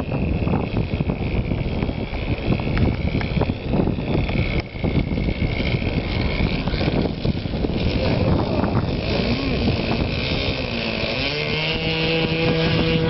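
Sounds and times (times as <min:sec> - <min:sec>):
model airplane engine whine: 0:00.0 - 0:13.0
wind buffeting microphone: 0:00.0 - 0:13.0.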